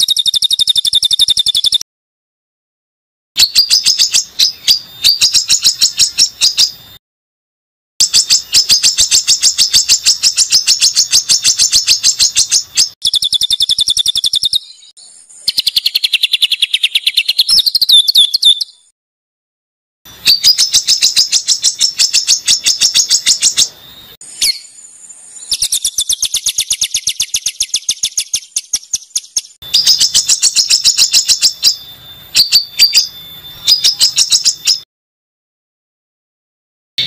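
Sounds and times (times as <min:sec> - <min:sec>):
songbird harsh rapid trills: 0:00.0 - 0:01.8, 0:03.4 - 0:06.9, 0:08.0 - 0:18.9, 0:20.1 - 0:34.8.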